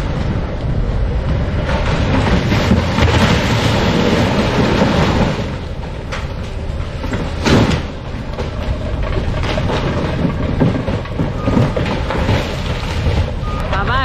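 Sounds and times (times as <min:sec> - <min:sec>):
heavy engine rumbling: 0:00.0 - 0:14.0
metallic knocks and clank: 0:01.5 - 0:13.9.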